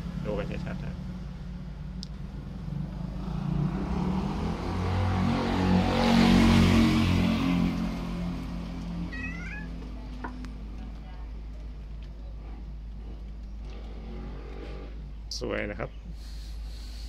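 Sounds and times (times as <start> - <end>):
vehicle engine humming: 0.0 - 15.3.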